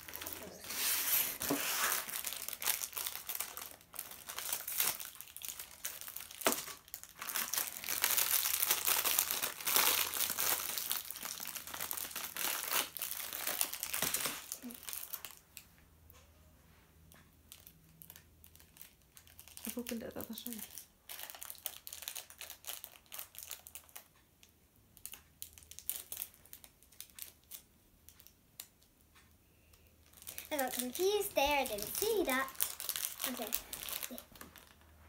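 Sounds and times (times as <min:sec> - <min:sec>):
plastic wrapping crinkling: 0:00.0 - 0:15.4, 0:17.5 - 0:28.8, 0:30.0 - 0:35.0.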